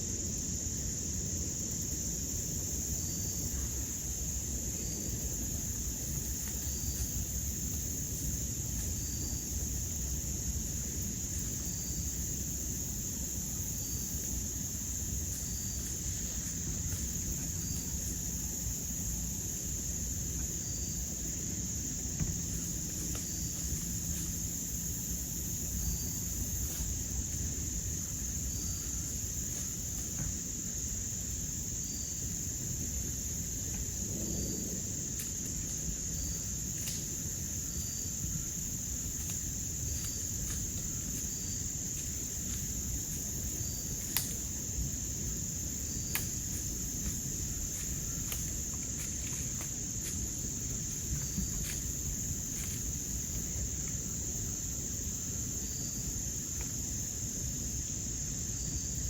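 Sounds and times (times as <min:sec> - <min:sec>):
crickets and insects chirring: 0:00.0 - 0:59.0.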